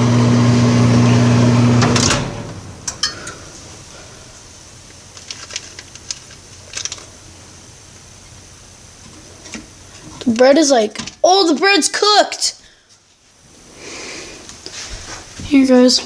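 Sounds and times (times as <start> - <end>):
microwave oven humming: 0.0 - 13.8.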